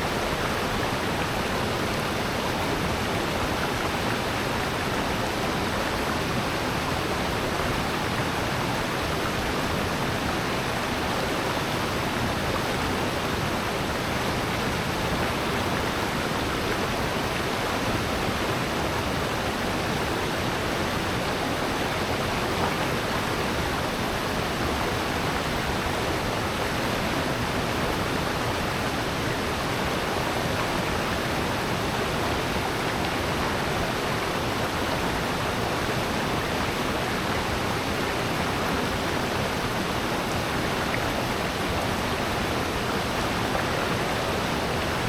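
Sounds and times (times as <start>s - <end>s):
water rushing in gorge: 0.0s - 45.0s.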